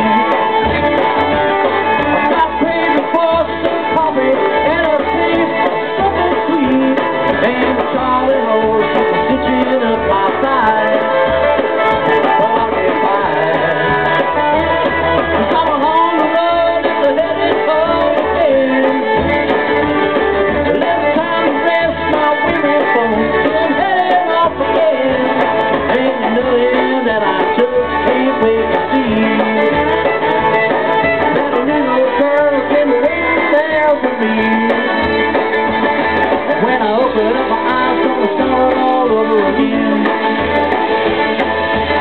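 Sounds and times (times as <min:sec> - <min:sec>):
acoustic guitar: 0:00.0 - 0:42.0
banjo: 0:00.0 - 0:42.0
drum kit beat: 0:00.0 - 0:42.0
fiddle: 0:00.0 - 0:42.0.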